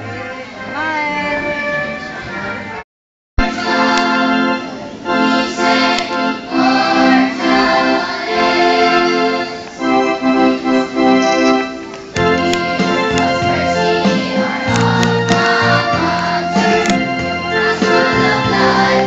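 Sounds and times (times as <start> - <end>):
electronic keyboard organ-like melody: 3.4 - 19.0.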